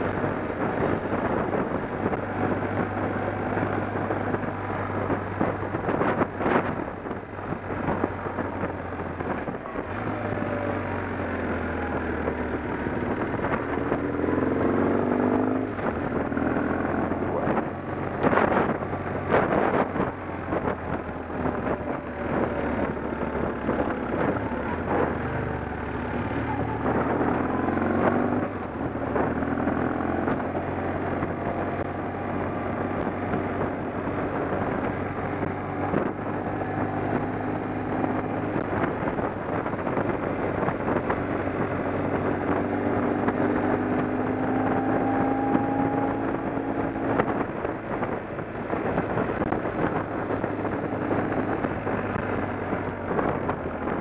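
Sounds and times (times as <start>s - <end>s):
engine running: 0.0s - 54.0s
wind on microphone: 0.0s - 54.0s.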